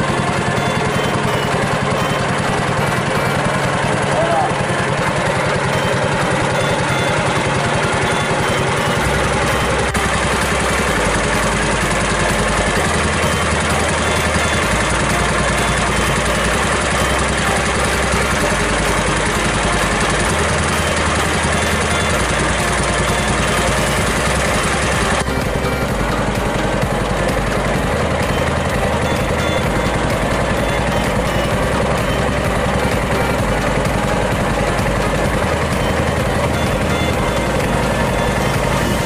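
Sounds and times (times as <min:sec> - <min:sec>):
small boat engine running: 0:00.0 - 0:39.0.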